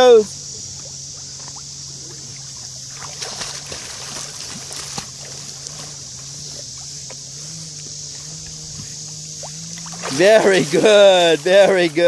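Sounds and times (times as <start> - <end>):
steady high hiss: 0.0 - 4.0, 4.6 - 12.0
low hum: 0.0 - 12.0
dogs splashing through water: 0.7 - 12.0.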